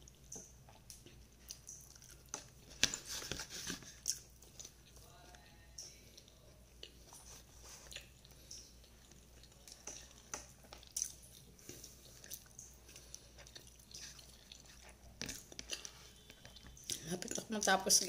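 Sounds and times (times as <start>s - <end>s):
person chewing with wet mouth smacks: 0.0s - 5.0s, 5.7s - 17.4s.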